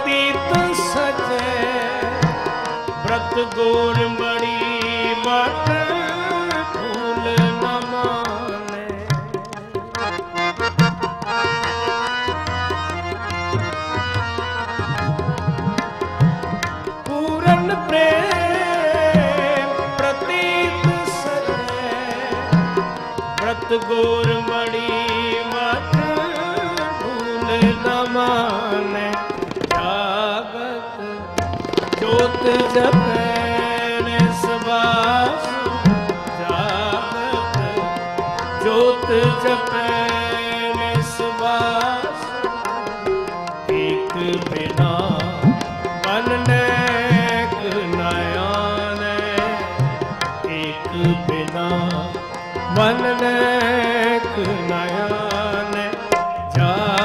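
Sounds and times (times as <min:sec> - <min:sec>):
harmonium melody: 0:00.0 - 0:57.0
tabla rhythm: 0:00.0 - 0:57.0.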